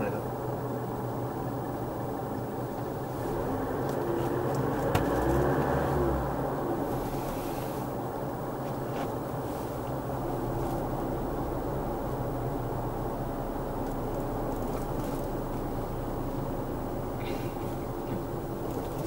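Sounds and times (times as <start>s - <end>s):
car engine and tyre road noise: 0.0s - 19.0s.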